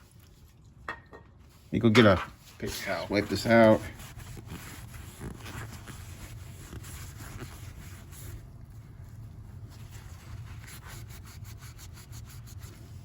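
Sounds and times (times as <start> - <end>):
paper towel scrubbing: 1.5 - 13.0.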